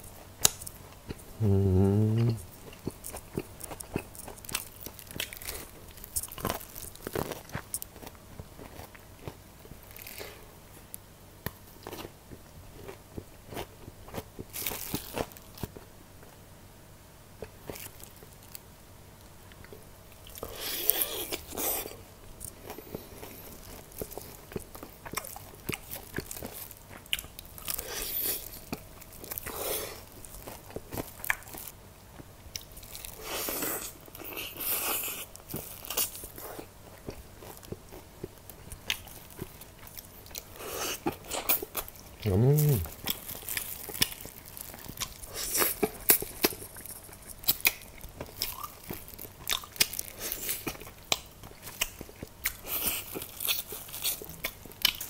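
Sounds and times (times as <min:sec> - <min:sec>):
crunchy chewing: 0:02.2 - 0:16.4, 0:19.5 - 0:55.0.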